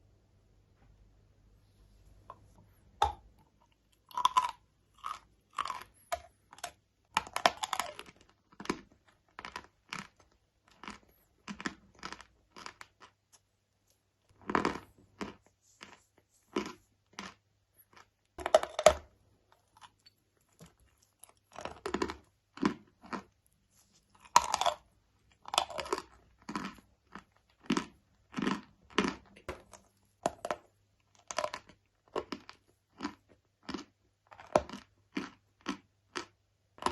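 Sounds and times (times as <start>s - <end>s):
crunchy food being chewed: 2.4s - 36.9s.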